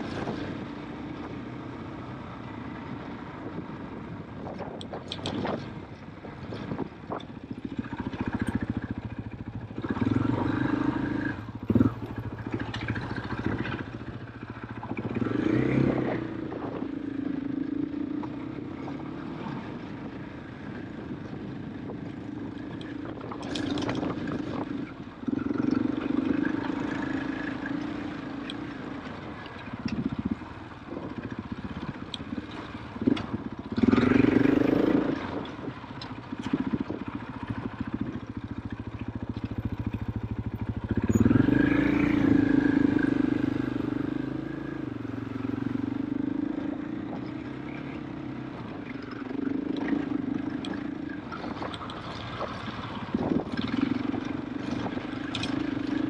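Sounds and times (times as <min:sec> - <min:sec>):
motorcycle engine revving: 0:06.5 - 0:56.0.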